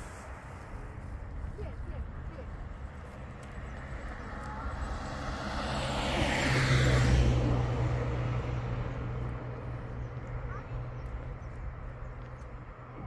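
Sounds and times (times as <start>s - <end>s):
low engine hum: 0.0s - 13.0s
motor vehicle passing: 0.0s - 13.0s.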